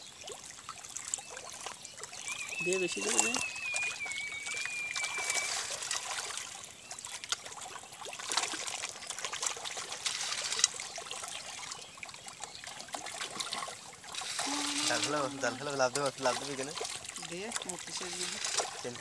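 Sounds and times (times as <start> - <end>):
fish splashing at water surface: 0.0 - 19.0.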